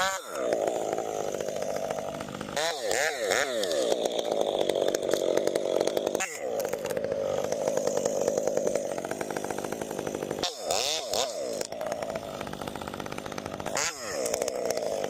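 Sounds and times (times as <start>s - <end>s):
chainsaw engine at high revs: 0.0s - 15.0s.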